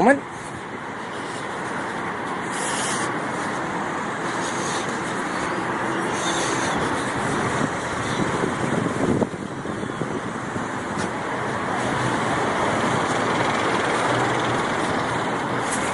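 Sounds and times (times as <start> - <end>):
road traffic rushing: 0.0 - 15.9.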